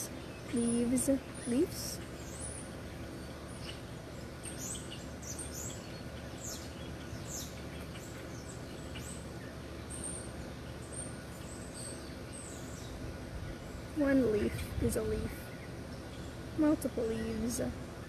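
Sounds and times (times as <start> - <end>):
low background rumble: 0.0 - 18.0
small birds chirping: 0.0 - 18.0.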